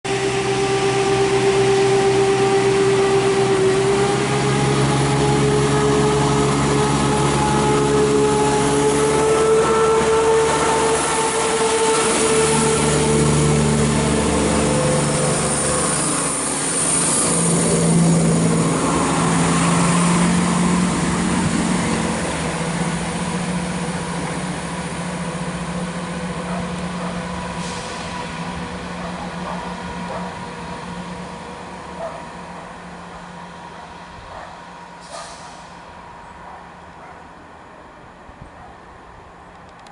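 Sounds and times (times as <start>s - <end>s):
diesel train engine pulling away: 0.0s - 39.9s.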